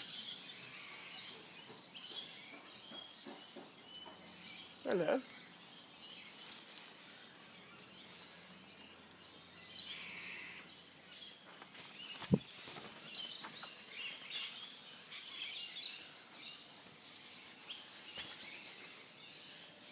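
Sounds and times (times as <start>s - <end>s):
birds chirping: 0.0s - 19.9s.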